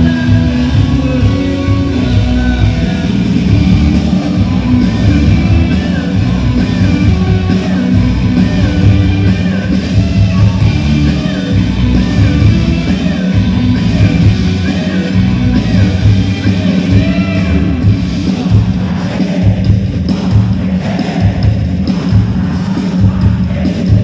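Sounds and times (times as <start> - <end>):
live rock band: 0.0 - 24.0
person singing: 0.0 - 24.0.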